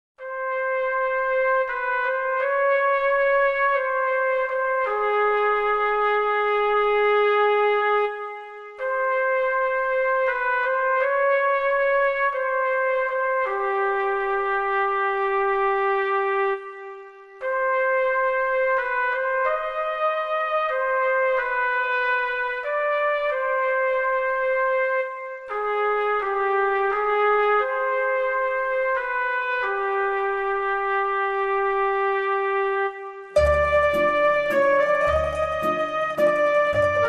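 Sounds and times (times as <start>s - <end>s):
trumpet-like brass melody: 0.2s - 37.0s.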